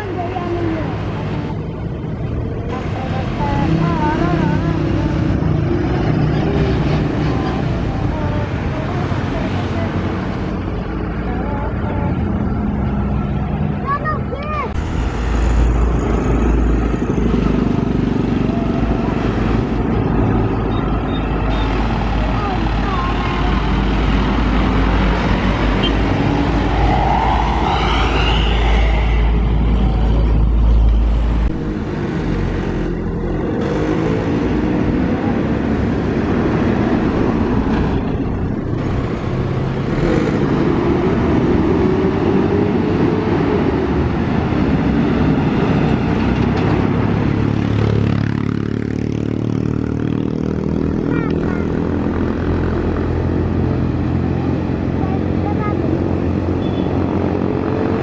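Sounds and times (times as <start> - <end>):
heavy vehicles passing: 0.0 - 58.0.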